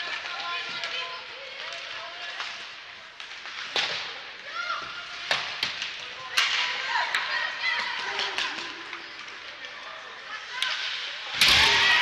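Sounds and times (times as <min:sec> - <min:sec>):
hockey sticks cracking on puck: 0:00.0 - 0:11.6.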